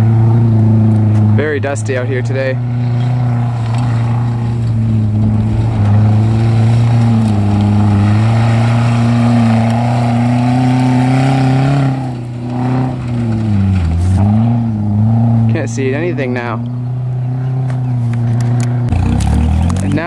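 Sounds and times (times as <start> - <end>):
rally car engine working hard: 0.0 - 20.0.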